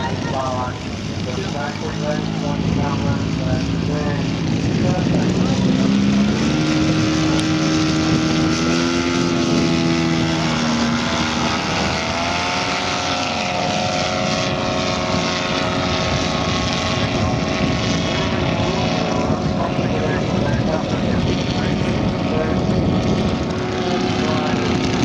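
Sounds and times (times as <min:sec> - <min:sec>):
model aircraft engine and propeller: 0:00.0 - 0:25.0.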